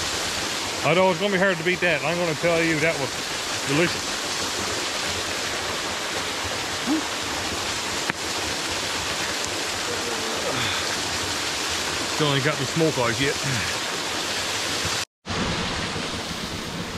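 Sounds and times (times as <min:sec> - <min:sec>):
waterfall rushing onto rocks: 0:00.0 - 0:16.9.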